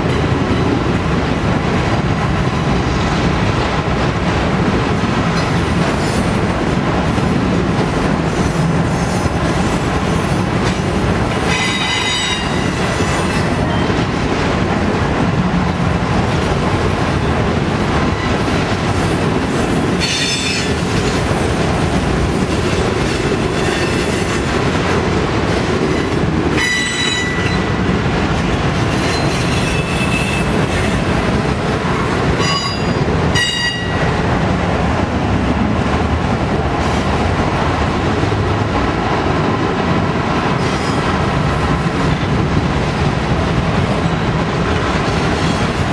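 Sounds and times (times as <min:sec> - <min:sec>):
freight cars rumbling on rails: 0:00.0 - 0:45.9.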